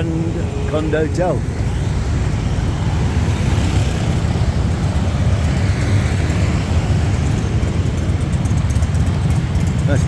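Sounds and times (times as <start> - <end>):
busy street traffic rumble: 0.0 - 10.0.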